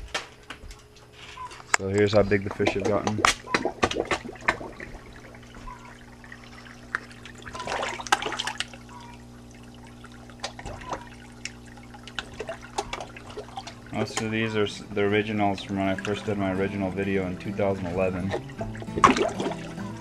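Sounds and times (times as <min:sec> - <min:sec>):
low steady hum: 0:00.0 - 0:20.0
fish splashing and slurping: 0:01.2 - 0:20.0
water trickling and splashing: 0:01.8 - 0:20.0.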